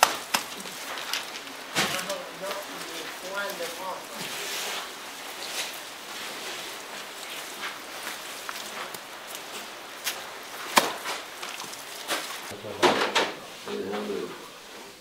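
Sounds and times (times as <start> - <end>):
footsteps shuffling on straw: 0.0 - 12.5
mud plaster slapping: 0.0 - 12.6.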